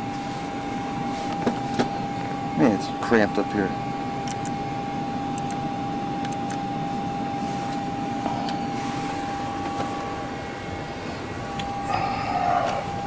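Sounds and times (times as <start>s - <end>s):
cockpit systems hum and hiss: 0.0s - 13.0s
constant high tone: 0.0s - 13.0s.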